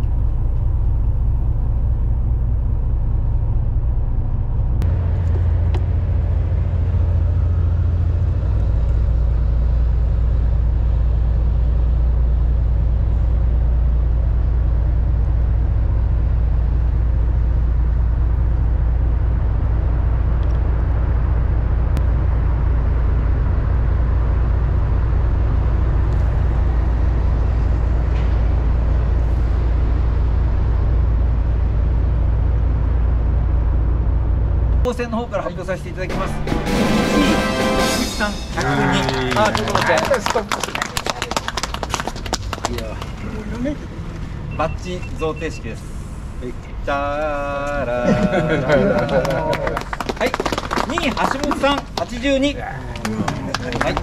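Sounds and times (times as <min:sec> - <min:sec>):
loud low rumble: 0:00.0 - 0:44.6.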